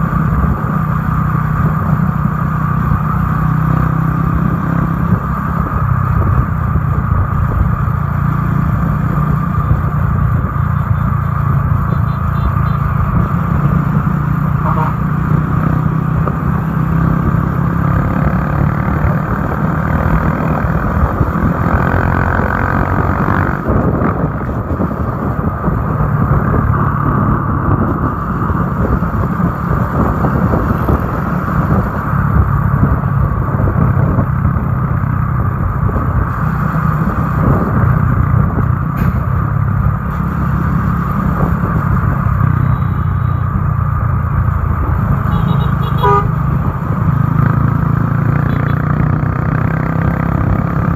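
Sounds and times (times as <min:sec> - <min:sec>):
wind noise: 0:00.0 - 0:43.0
motorcycle engine running: 0:00.0 - 0:50.9.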